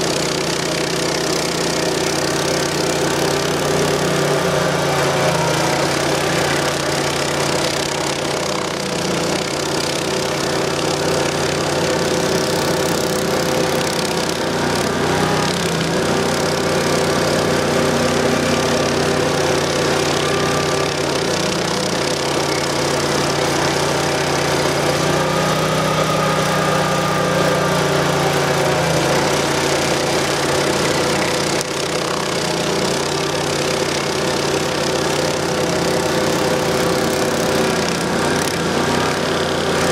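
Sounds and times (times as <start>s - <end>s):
cutter wheel grinding stump: 0.0s - 39.9s
gas engine running under load: 0.0s - 39.9s.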